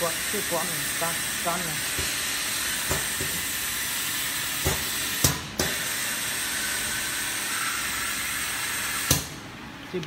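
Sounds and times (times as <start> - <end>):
machine hissing: 0.0 - 9.3.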